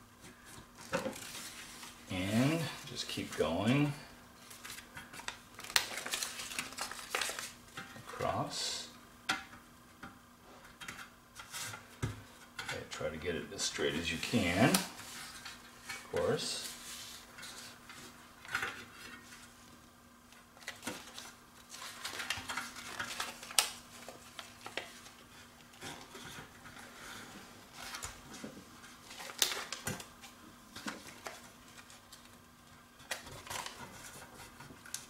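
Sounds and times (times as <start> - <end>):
backing paper rustling and crinkling: 0.2 - 8.6, 13.6 - 35.0.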